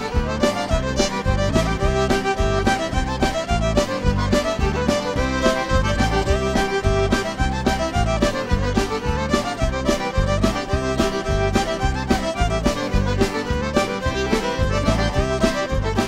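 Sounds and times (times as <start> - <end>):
upbeat instrumental music: 0.0 - 16.0.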